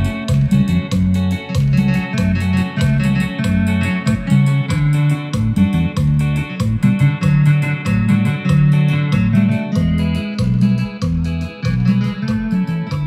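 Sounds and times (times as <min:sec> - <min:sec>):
loud dance music with guitar: 0:00.0 - 0:13.0.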